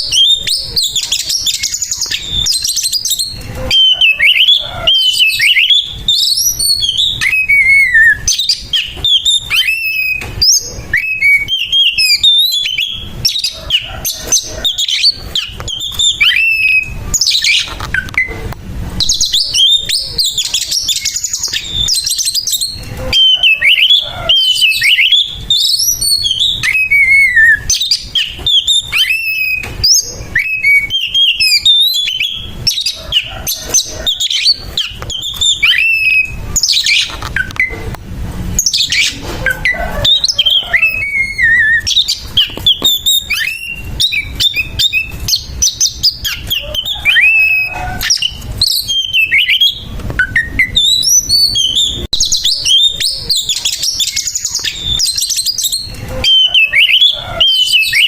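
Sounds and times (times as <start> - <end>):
bird singing with harsh calls: 0.0 - 37.9, 38.5 - 58.0.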